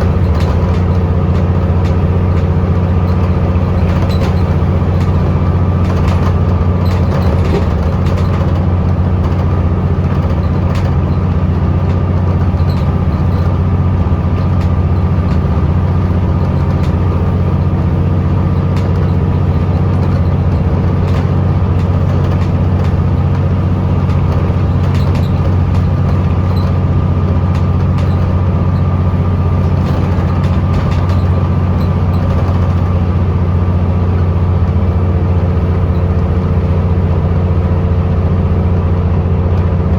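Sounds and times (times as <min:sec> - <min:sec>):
light clicks and rattles: 0:00.0 - 0:36.6
bus diesel engine droning: 0:00.0 - 0:39.9.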